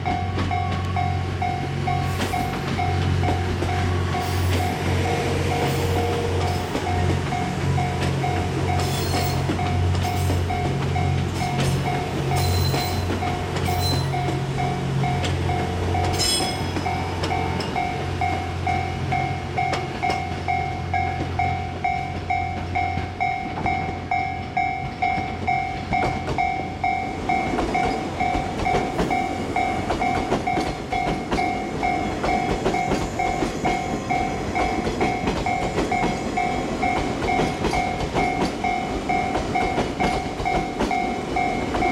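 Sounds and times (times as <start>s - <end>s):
train engine hum: 0.0s - 41.9s
train wheels rumbling on rails: 0.0s - 41.9s.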